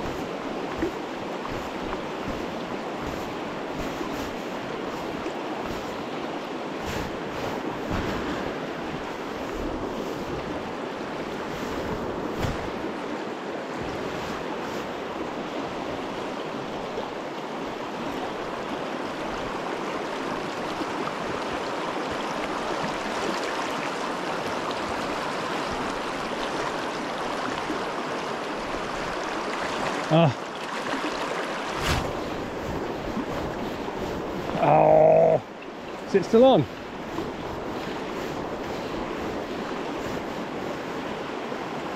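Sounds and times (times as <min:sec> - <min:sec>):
river water rushing over rocks: 0:00.0 - 0:41.9.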